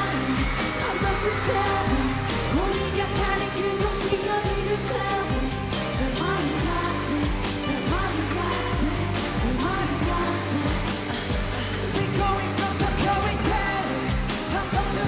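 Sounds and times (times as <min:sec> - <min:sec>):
group singing over pop backing track: 0:00.0 - 0:15.0.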